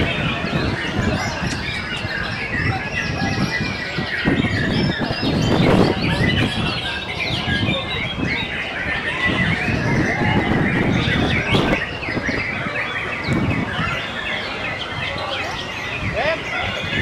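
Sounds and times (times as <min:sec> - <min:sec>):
songbirds whistling and chirping: 0:00.0 - 0:17.0.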